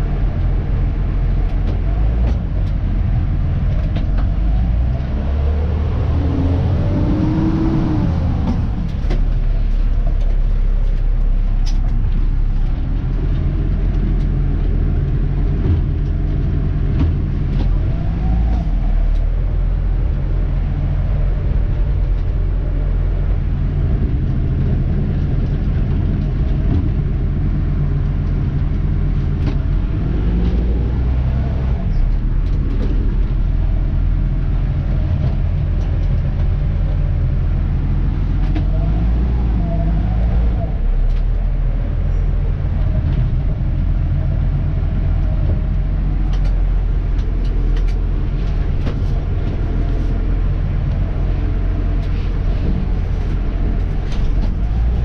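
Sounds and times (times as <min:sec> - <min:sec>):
truck diesel engine hum: 0:00.0 - 0:55.0.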